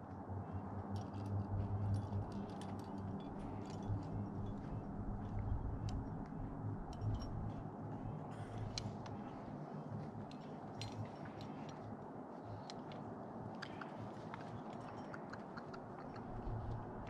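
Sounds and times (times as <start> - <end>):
climbing gear clicks and rustles: 0.0 - 17.0
wind rumble on microphone: 0.0 - 17.0.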